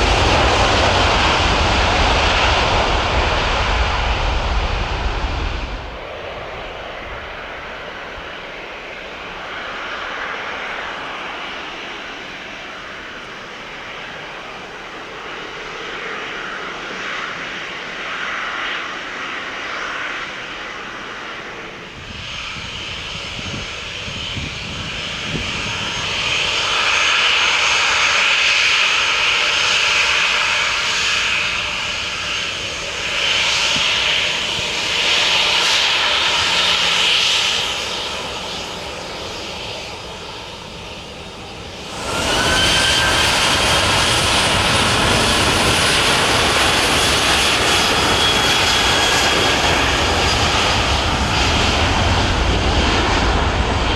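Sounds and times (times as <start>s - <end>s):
jet engines with high whine: 0.0s - 53.9s.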